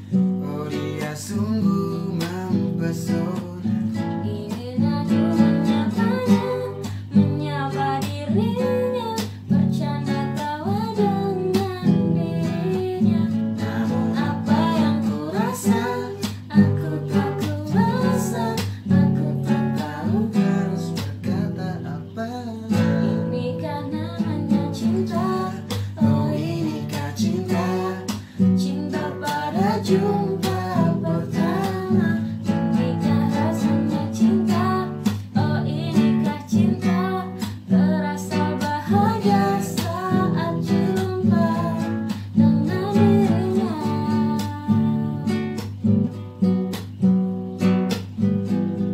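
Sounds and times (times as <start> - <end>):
person singing: 0.0 - 46.0
acoustic guitar: 0.0 - 48.9.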